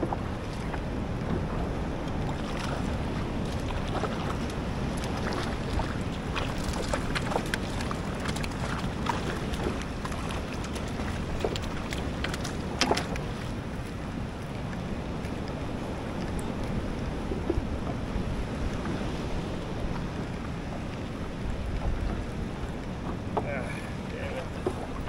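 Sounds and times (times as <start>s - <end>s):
choppy water: 0.0s - 25.0s
wind buffeting microphone: 0.0s - 25.0s.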